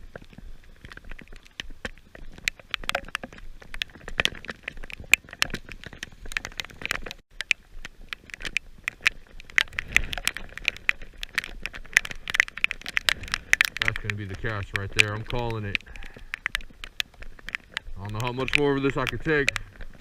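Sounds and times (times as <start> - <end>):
heavy rain drops ticking: 0.0 - 20.0.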